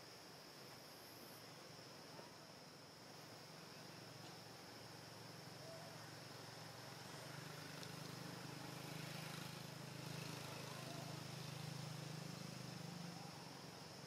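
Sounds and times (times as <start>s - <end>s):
faint low hum: 0.0s - 14.0s
high-pitched insect drone: 0.0s - 14.0s.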